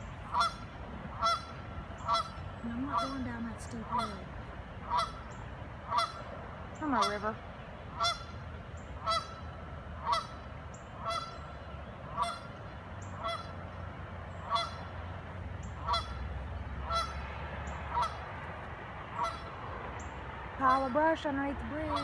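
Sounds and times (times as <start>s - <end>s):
geese honking: 0.0s - 22.0s
steady low rumble: 0.0s - 22.0s.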